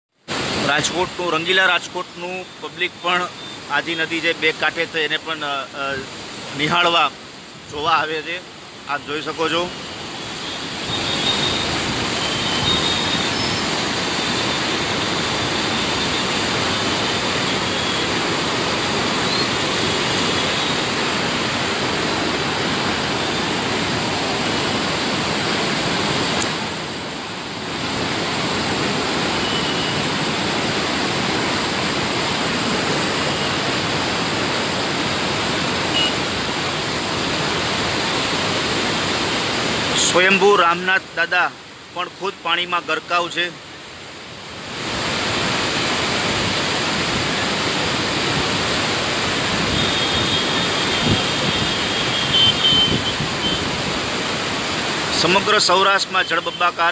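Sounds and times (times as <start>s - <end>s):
floodwater rushing: 0.2s - 56.9s.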